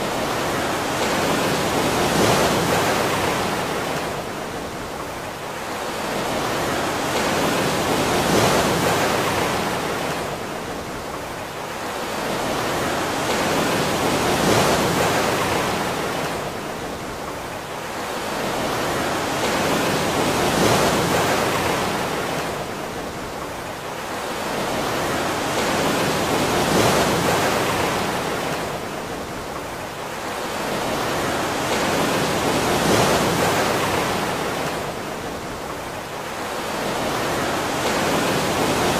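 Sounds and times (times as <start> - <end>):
ocean waves washing: 0.0 - 38.9.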